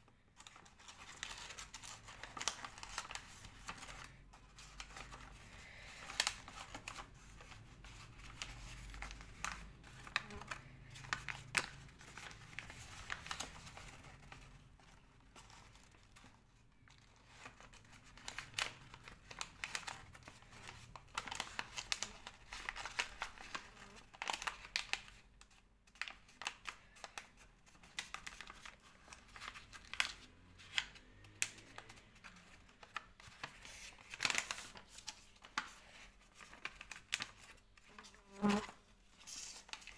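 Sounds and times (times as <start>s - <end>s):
paper rustling and crinkling: 0.1s - 39.9s.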